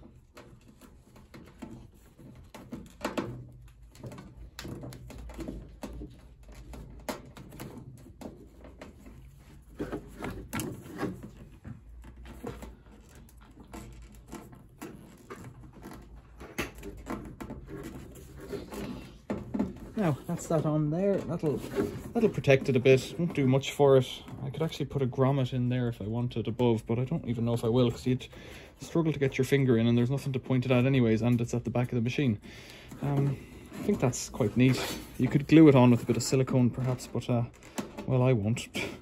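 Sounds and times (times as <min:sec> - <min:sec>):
hands working plastic tubing: 0:00.0 - 0:39.0.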